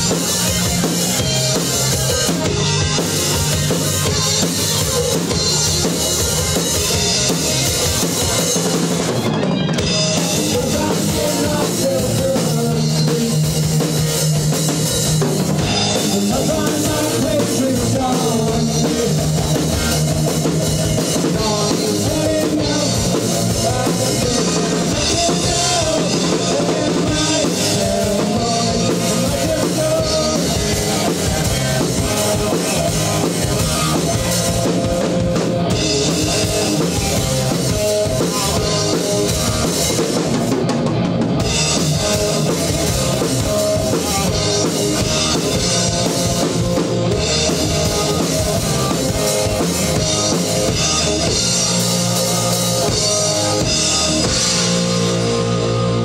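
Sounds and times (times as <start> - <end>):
bass drum and snare: 0.0 - 56.0
rock band playing loudly: 0.0 - 56.0.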